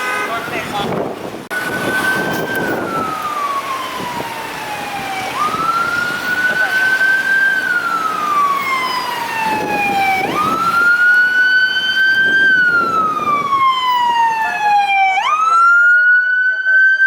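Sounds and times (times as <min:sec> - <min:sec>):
electronic siren wailing: 0:01.5 - 0:17.0.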